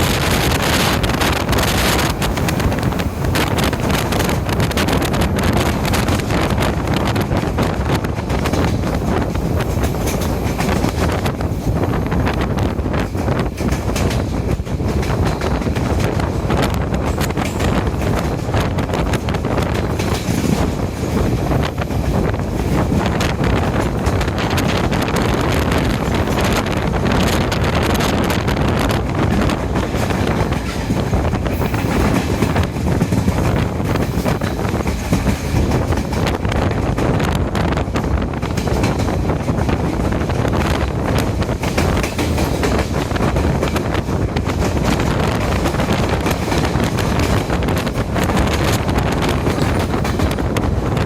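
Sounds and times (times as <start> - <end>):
train wheels rumbling on track: 0.0 - 51.0
wind buffeting microphone: 0.0 - 51.0.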